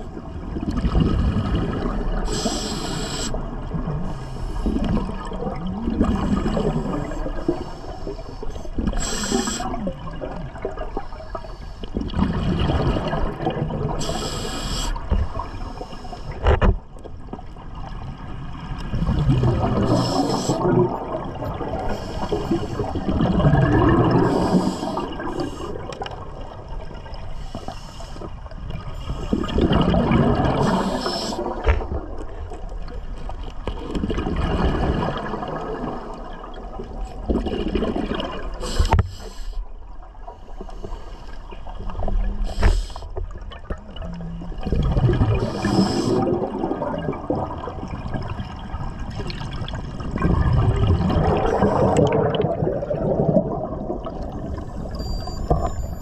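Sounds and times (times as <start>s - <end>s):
exhaled bubbles gurgling: 0.0s - 40.3s, 41.4s - 56.0s.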